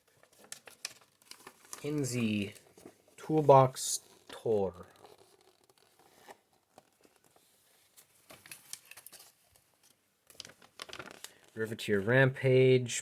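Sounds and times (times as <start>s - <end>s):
cardboard and cards rustling: 0.0s - 11.6s.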